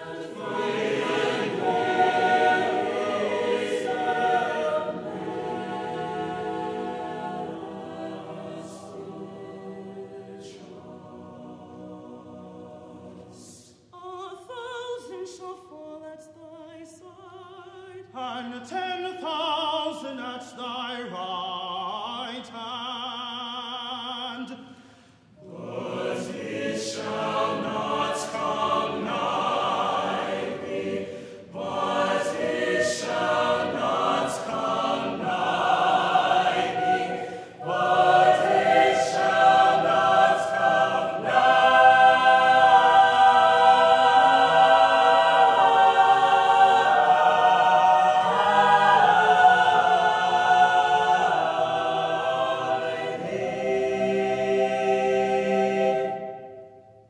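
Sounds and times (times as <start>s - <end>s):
mixed choir singing gospel: 0.0s - 15.4s, 17.6s - 57.0s.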